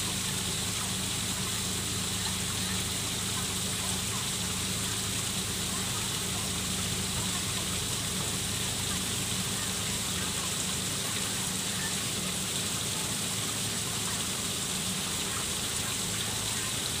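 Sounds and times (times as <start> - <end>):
small waterfall splashing: 0.0 - 17.0.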